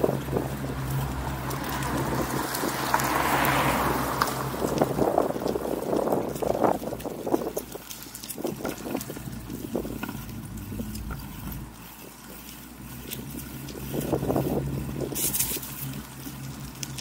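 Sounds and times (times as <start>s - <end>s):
bicycle rolling over pavement: 0.0s - 17.0s
wind buffeting microphone: 0.0s - 17.0s.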